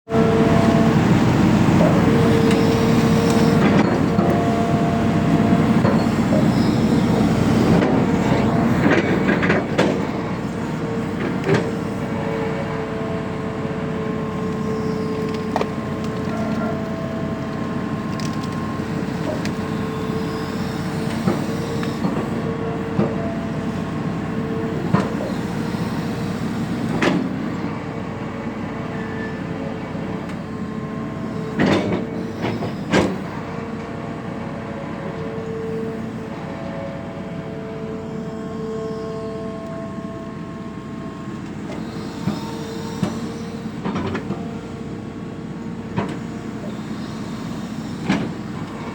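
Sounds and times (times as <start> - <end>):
excavator whine: 0.0 - 48.9
excavator engine running: 0.1 - 48.9.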